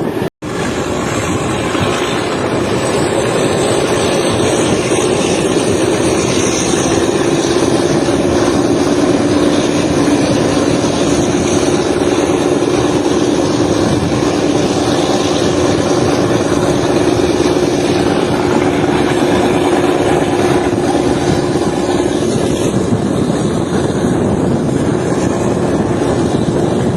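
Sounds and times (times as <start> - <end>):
train rumbling: 0.0 - 26.9.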